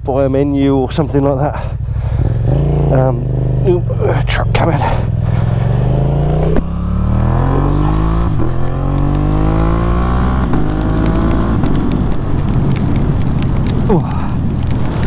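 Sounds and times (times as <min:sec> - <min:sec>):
motorcycle engine accelerating: 0:00.6 - 0:15.0.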